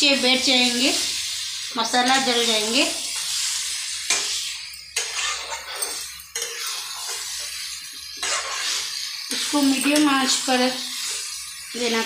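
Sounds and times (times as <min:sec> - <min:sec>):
frying sizzle: 0:00.0 - 0:12.0
spatula scraping a pan: 0:00.6 - 0:12.0.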